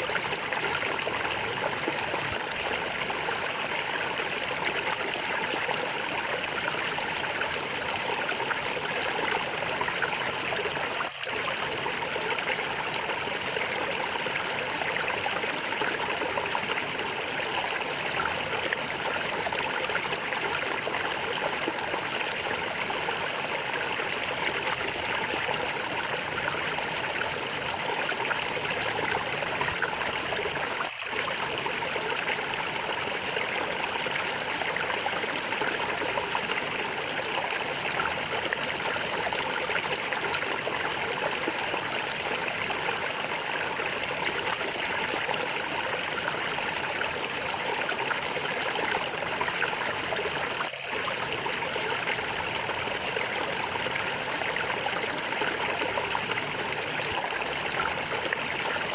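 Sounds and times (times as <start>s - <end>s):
water gurgling and flowing: 0.0s - 58.9s.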